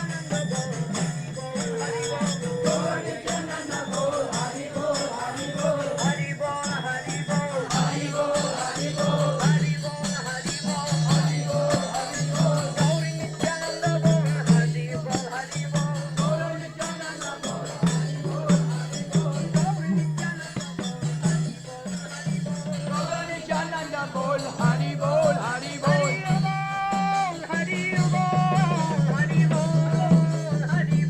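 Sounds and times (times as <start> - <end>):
group singing and chanting: 0.0 - 31.0
hand cymbals jingling: 0.0 - 31.0
hand drums beating: 0.0 - 31.0.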